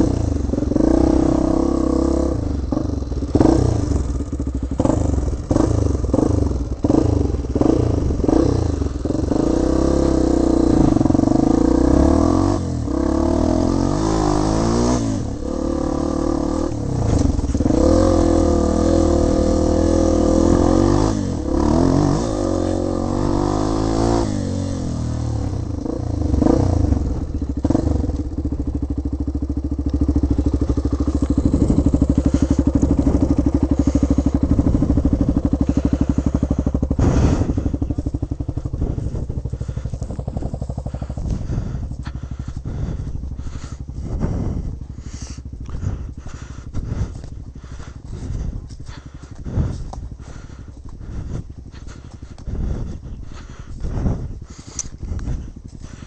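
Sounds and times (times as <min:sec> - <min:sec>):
trail bike engine revving: 0:00.0 - 0:56.0.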